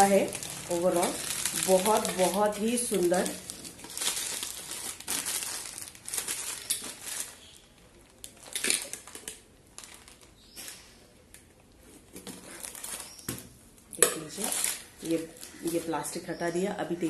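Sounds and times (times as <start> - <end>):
plastic wrapping crinkling: 0.0 - 16.3.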